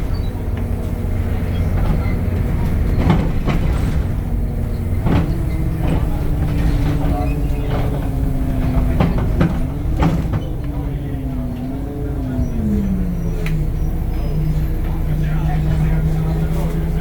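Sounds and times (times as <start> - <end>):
bus engine low drone: 0.0 - 17.0.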